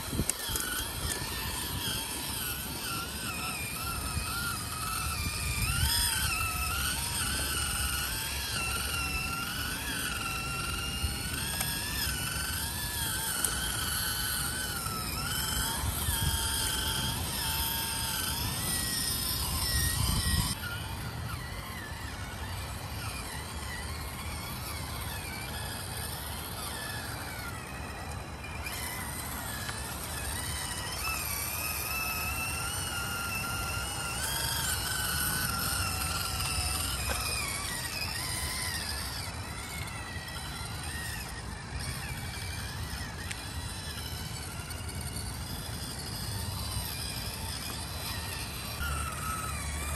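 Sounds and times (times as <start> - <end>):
rc truck motor whining: 0.0 - 49.9.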